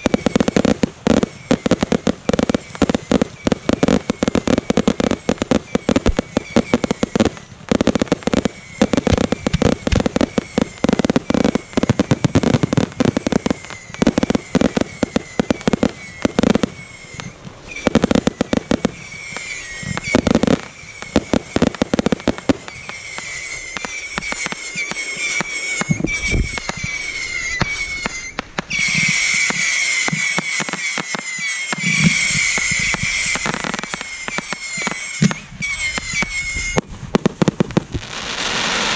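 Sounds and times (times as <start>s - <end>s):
high hissing whistle: 0.0s - 36.9s
fireworks bangs and crackles: 0.0s - 38.9s.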